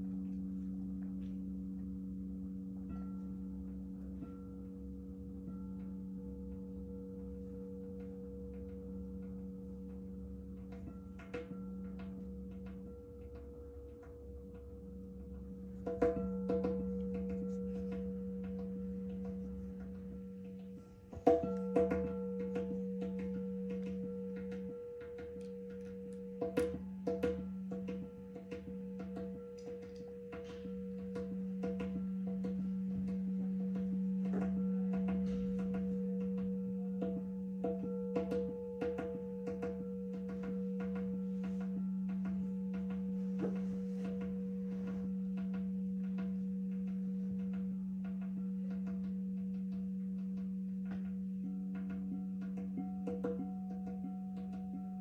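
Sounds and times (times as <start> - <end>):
singing bowls humming: 0.0 - 55.0.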